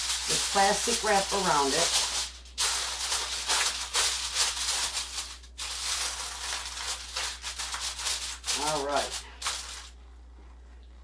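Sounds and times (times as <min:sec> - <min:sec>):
plastic wrap crinkling: 0:00.0 - 0:10.5.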